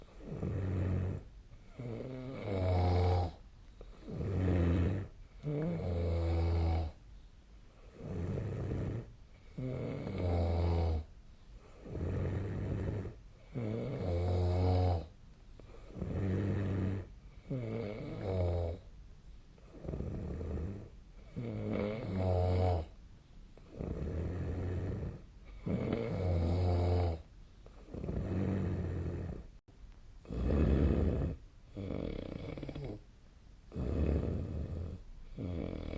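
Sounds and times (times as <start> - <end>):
quiet breaths: 0.0 - 35.9
person snoring: 0.2 - 3.4, 4.0 - 7.0, 7.9 - 11.1, 11.8 - 15.1, 15.9 - 18.8, 19.7 - 22.9, 23.7 - 27.2, 27.9 - 29.5, 30.2 - 33.0, 33.7 - 35.9.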